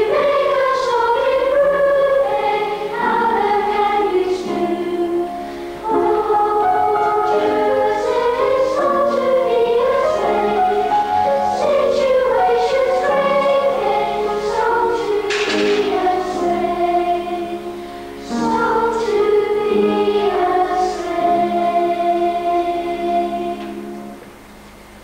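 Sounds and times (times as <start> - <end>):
children's choir singing: 0.0 - 24.2.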